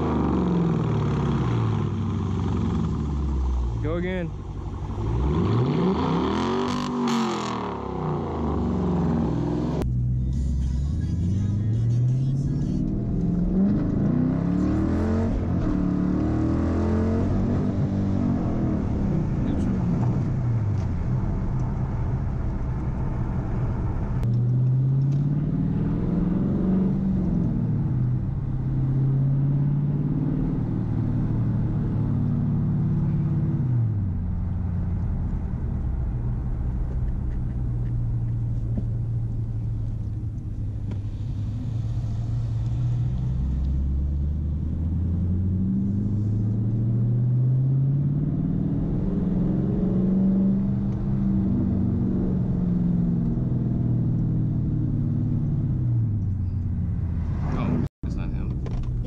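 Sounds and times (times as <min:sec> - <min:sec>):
car exhaust rumble: 0:00.0 - 0:59.0.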